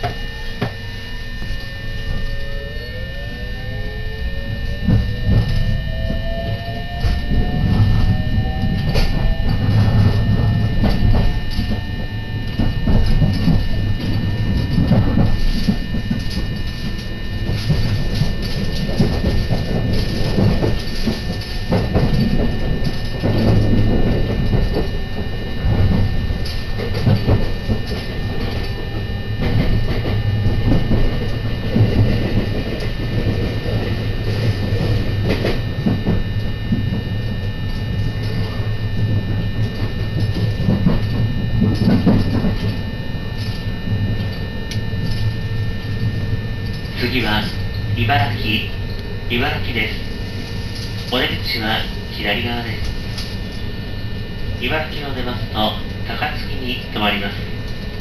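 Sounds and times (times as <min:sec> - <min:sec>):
train rumble: 0:00.0 - 0:58.0
train traction motor whine: 0:00.0 - 0:58.0.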